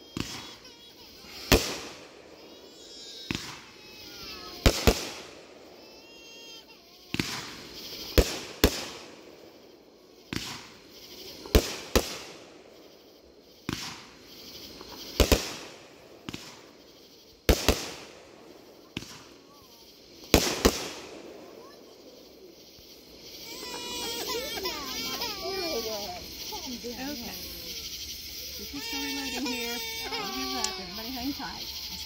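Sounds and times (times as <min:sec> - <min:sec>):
fireworks bursting: 0:00.0 - 0:32.0.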